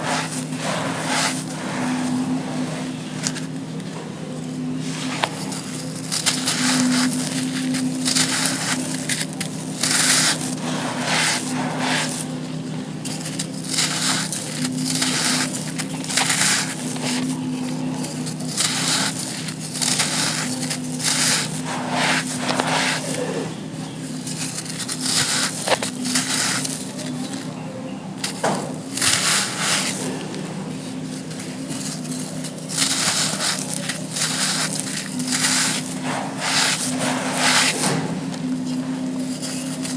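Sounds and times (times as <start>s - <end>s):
sand crunching and crumbling: 0.0s - 39.9s.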